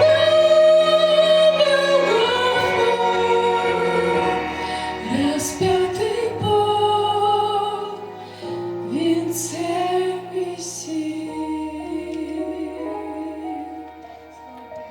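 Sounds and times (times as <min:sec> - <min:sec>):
person singing long gliding notes: 0:00.0 - 0:14.9
sustained accompaniment chords: 0:00.0 - 0:14.9.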